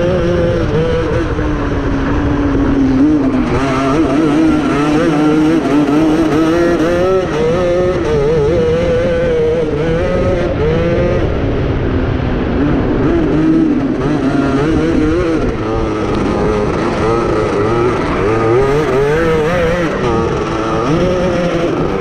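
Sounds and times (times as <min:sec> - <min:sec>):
kart engine revving: 0:00.0 - 0:22.0.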